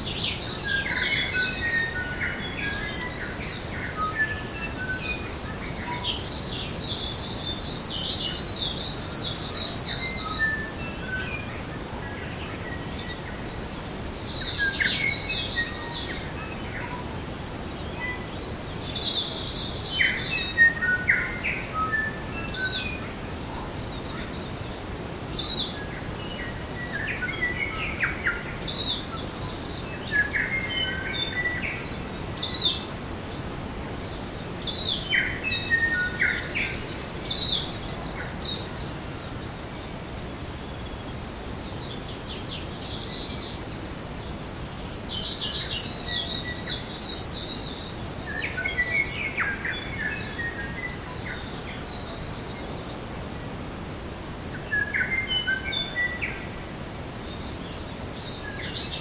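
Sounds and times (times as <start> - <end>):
songbirds chirping and twittering: 0.0 - 59.0
steady background hiss: 0.0 - 59.0.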